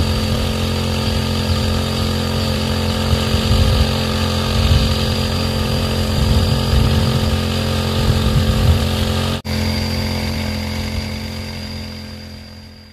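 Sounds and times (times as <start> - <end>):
small sprayer engine running: 0.0 - 12.9.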